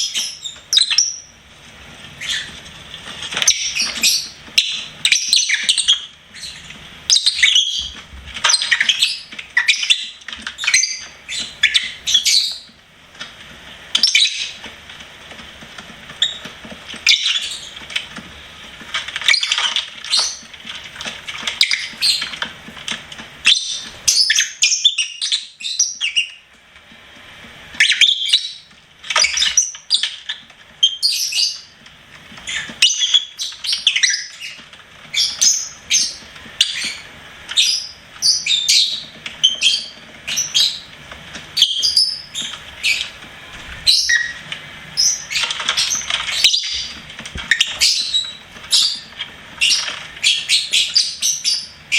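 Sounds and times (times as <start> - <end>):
lovebirds chirping and squawking: 0.0 - 1.4, 2.0 - 12.8, 13.9 - 14.7, 16.1 - 18.1, 19.0 - 26.5, 27.7 - 51.9.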